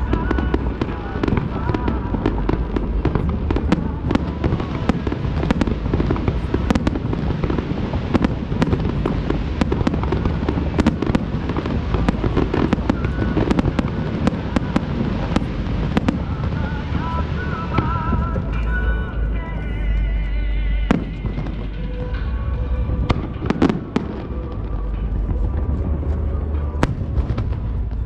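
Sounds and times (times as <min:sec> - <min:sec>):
fireworks cracks and bangs: 0:00.0 - 0:18.8, 0:20.8 - 0:28.0
low rumble: 0:00.0 - 0:28.0
music: 0:00.0 - 0:28.0.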